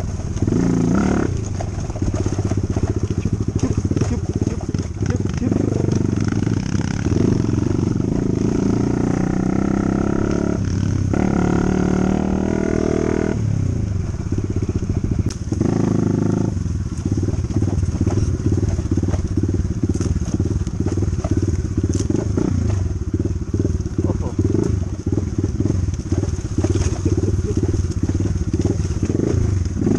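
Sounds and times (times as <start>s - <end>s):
dirt bike engine running: 0.0s - 29.9s.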